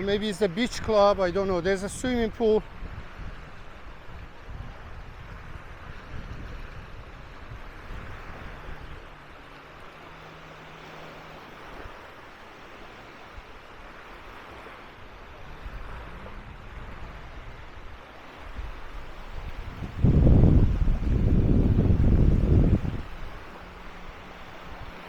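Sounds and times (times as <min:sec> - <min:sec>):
sea waves breaking on sand: 0:00.0 - 0:25.0
wind rumbling on microphone: 0:00.0 - 0:25.0.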